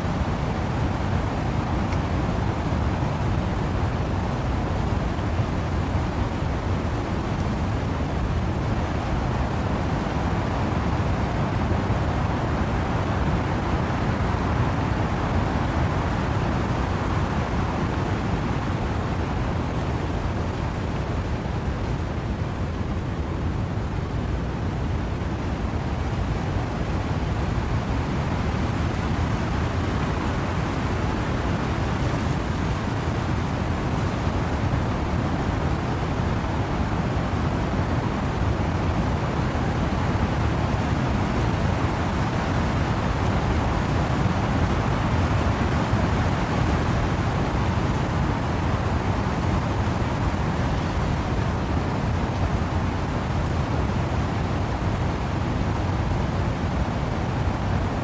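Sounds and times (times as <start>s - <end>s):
wind and rain through trees: 0.0s - 58.0s.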